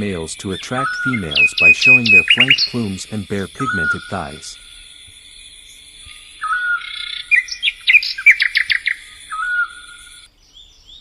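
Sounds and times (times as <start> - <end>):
steady high-pitched buzz: 0.0 - 10.3
bird chirping: 0.0 - 11.0
faint rising chirps: 0.0 - 11.0.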